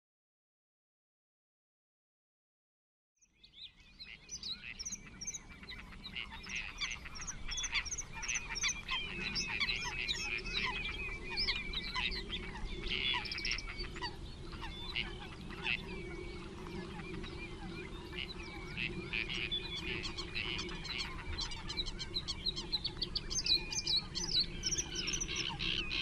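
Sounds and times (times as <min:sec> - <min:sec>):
chorus of birds chirping: 0:03.2 - 0:26.0.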